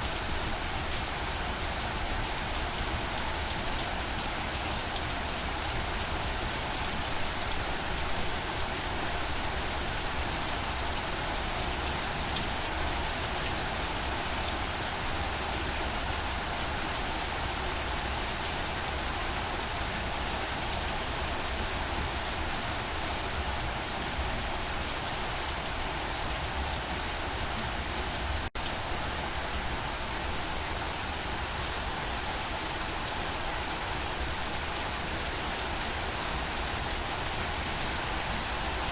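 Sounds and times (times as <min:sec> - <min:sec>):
rain pattering on surfaces: 0:00.1 - 0:38.9.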